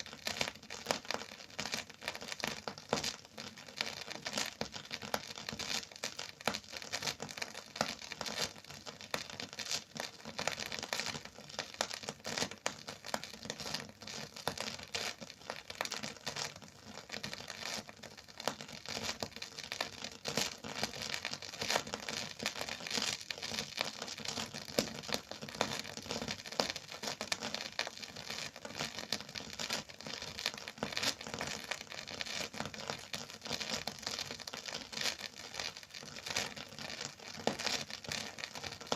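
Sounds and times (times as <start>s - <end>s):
record surface crackle: 0.0s - 38.9s.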